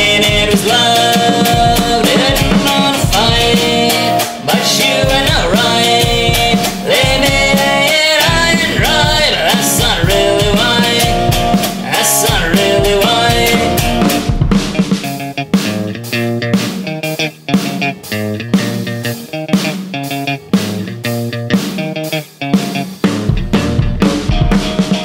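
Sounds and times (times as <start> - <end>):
lead guitar melody: 0.0 - 25.0
rock band playing: 0.0 - 25.0.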